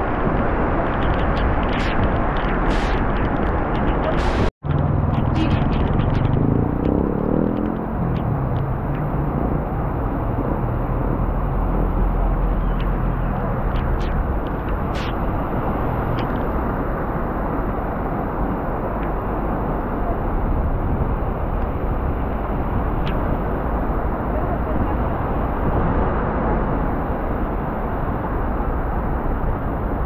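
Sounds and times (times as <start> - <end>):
vehicle low rumble: 0.0 - 30.0.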